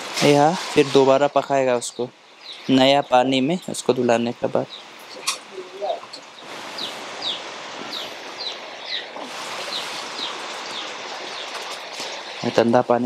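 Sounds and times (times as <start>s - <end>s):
bird chirping: 0.8s - 13.0s.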